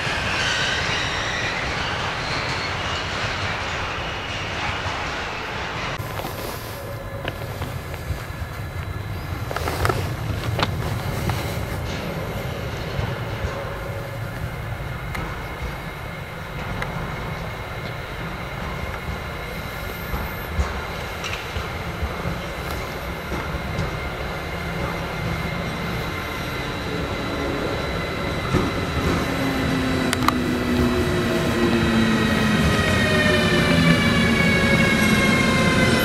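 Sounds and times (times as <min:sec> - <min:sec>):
locomotive rolling rumble: 0:00.0 - 0:36.0
steady high whine: 0:00.0 - 0:36.0.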